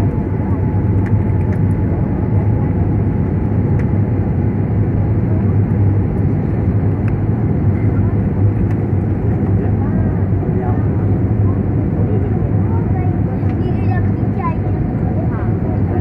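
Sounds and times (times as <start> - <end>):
jet engines roaring in cabin: 0.0 - 16.0.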